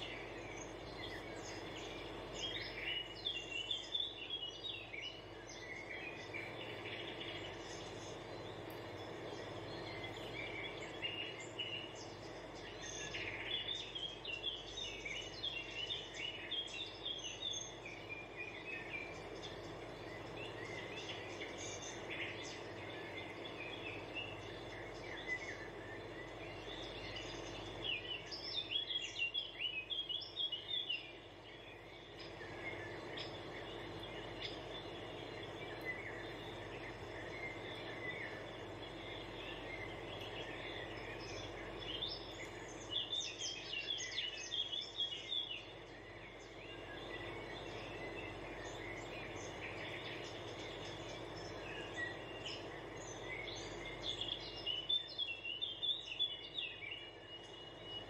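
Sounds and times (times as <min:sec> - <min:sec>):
background hiss: 0:00.0 - 0:58.0
small birds chirping: 0:00.0 - 0:58.0.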